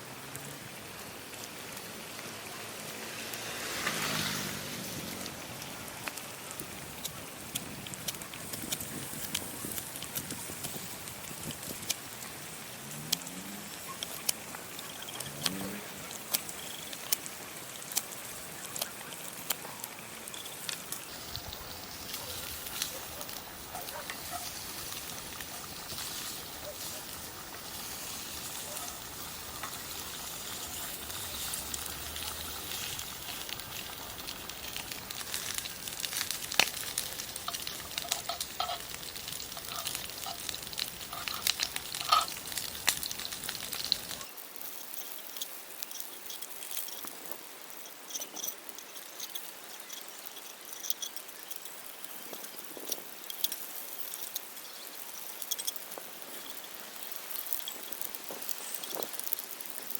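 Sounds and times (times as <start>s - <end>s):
steady sizzle: 0.0s - 59.9s
wood fire crackling and popping: 0.3s - 59.9s.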